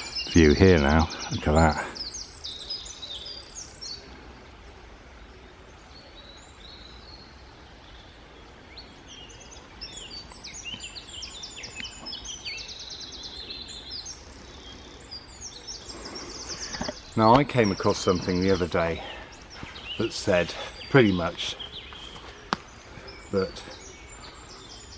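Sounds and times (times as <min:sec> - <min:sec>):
birds chirping and trilling: 0:00.0 - 0:24.9.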